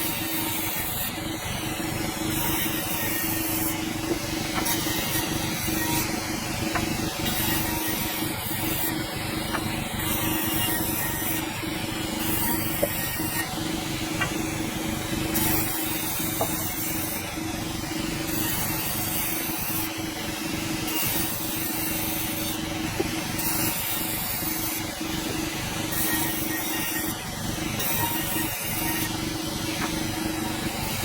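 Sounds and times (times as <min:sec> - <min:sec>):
sawmill blade cutting log: 0:00.0 - 0:19.9, 0:20.7 - 0:31.0.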